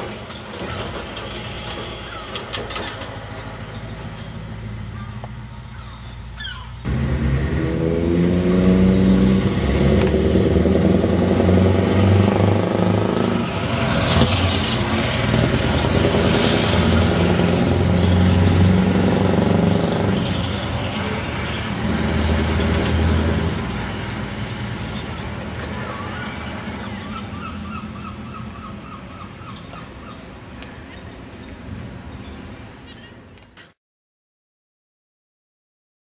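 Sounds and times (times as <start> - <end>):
diesel truck driving by: 0.0 - 30.1.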